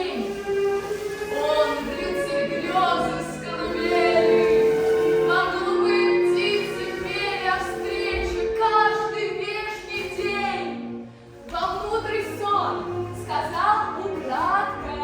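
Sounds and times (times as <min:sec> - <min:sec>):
choral singing with music: 0:00.0 - 0:15.0.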